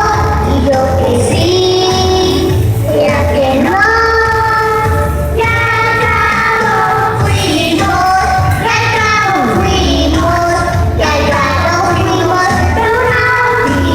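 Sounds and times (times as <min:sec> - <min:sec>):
backing track with bass line: 0:00.0 - 0:13.9
girl singing into a microphone: 0:00.0 - 0:13.9.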